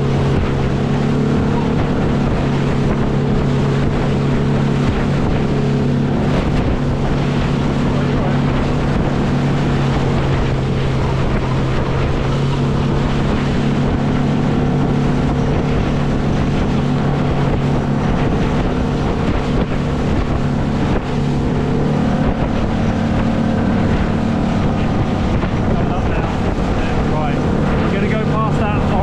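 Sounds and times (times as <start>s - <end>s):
boat engine running: 0.0s - 29.0s
water rushing past hull: 0.0s - 29.0s
wind buffeting microphone: 0.0s - 29.0s.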